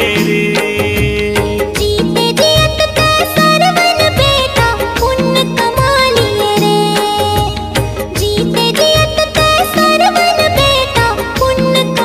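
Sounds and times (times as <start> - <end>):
repeating drum beat: 0.0 - 12.0.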